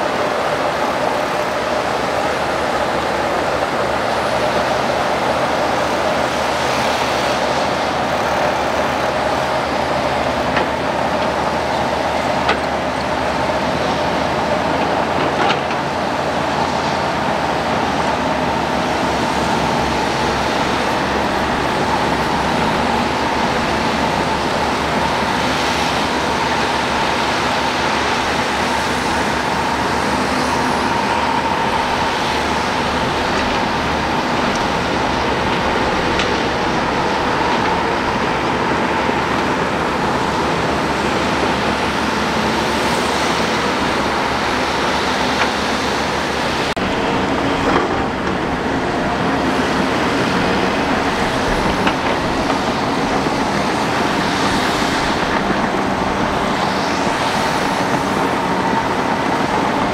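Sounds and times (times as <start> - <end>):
bulldozer diesel engine: 0.0 - 59.9
steel tracks clanking: 0.0 - 59.9.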